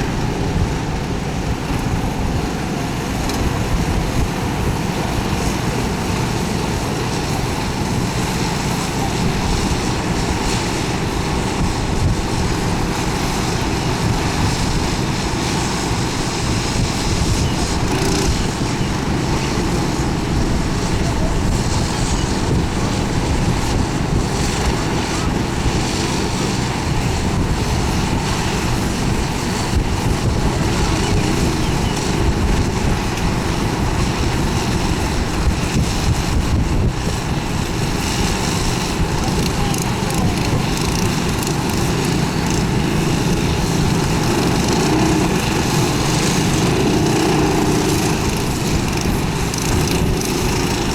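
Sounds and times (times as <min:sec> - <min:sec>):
kart engines running: 0:00.0 - 0:50.9.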